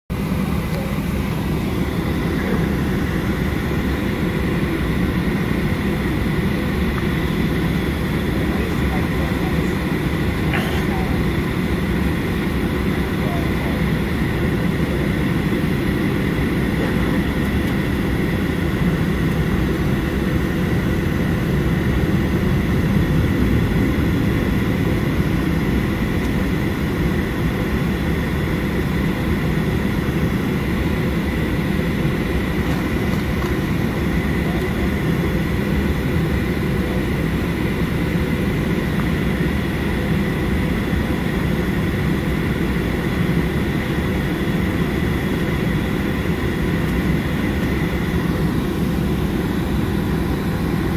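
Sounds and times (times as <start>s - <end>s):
aircraft cabin engine rumble: 0.1s - 50.9s
faint high engine whine: 0.1s - 50.9s.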